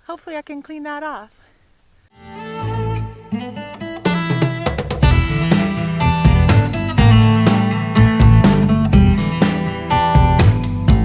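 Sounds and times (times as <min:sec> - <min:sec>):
acoustic guitar piece: 0:02.1 - 0:11.0.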